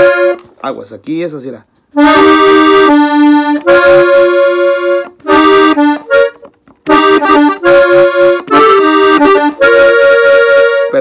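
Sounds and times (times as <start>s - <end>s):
button accordion playing: 0.0s - 0.6s, 1.9s - 11.0s.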